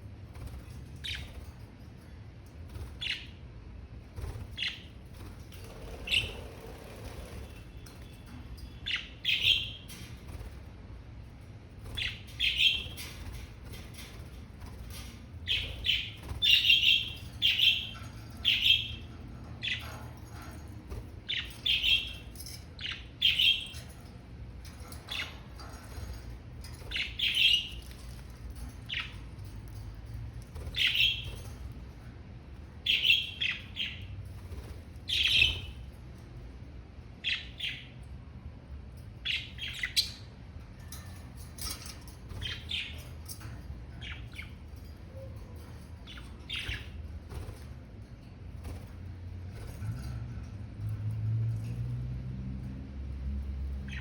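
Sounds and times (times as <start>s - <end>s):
budgerigars chirping and squawking: 0.3s - 3.4s, 4.1s - 10.6s, 11.7s - 36.1s, 37.2s - 38.1s, 39.2s - 51.8s, 53.7s - 54.0s.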